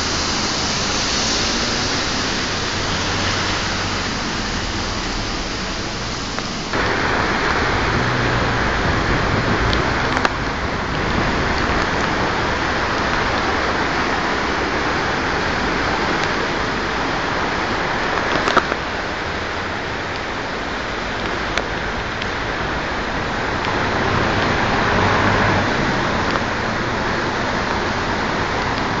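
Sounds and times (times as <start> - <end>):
heavy rain: 0.0 - 29.0
rushing floodwater: 0.0 - 29.0.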